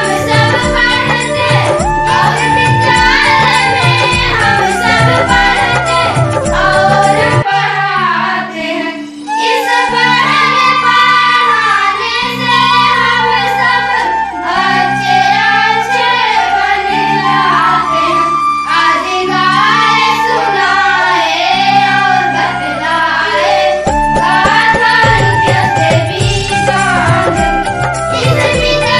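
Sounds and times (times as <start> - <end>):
girls singing: 0.0 - 28.9
instrumental accompaniment: 0.0 - 28.9.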